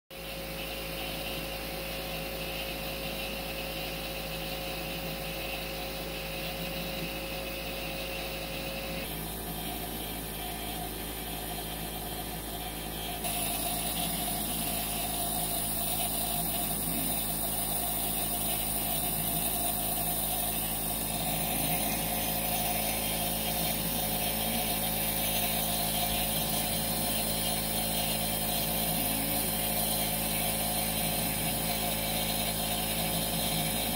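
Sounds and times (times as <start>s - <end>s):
nebulizer hum and hiss: 0.2s - 33.9s.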